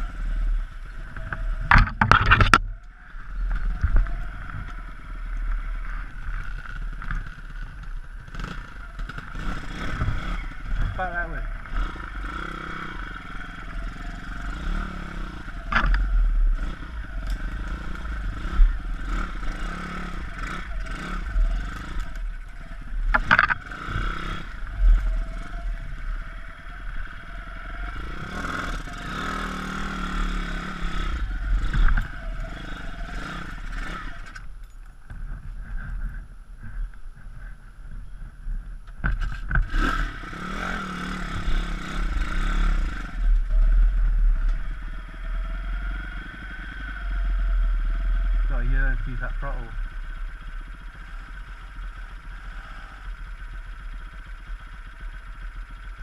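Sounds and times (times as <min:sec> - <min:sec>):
motorbike engine at low revs: 0:00.0 - 0:56.0.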